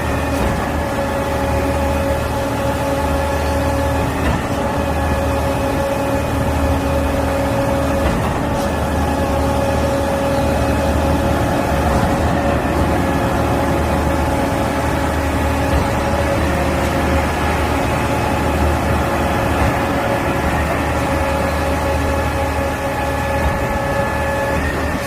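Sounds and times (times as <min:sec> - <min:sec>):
diesel engine running: 0:00.0 - 0:25.0
steady whine: 0:00.0 - 0:25.0.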